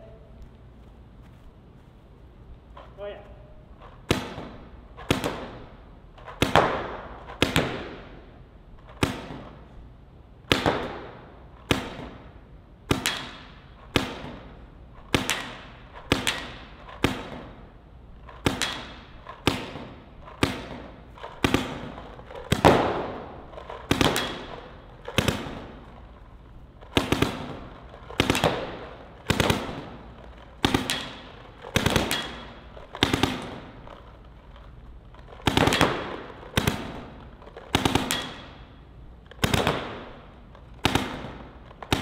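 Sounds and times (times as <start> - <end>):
paintball marker shots echoing: 2.6 - 42.0.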